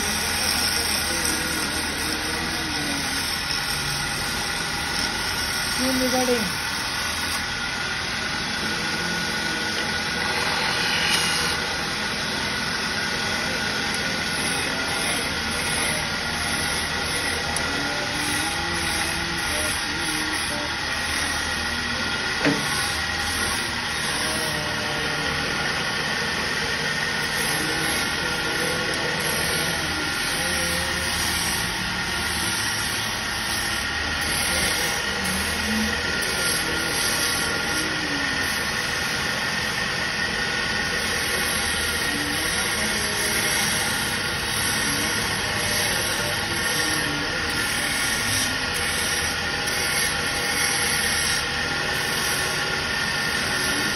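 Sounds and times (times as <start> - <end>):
chisel cutting wood hissing: 0.0 - 53.9
wood lathe running: 0.0 - 53.9.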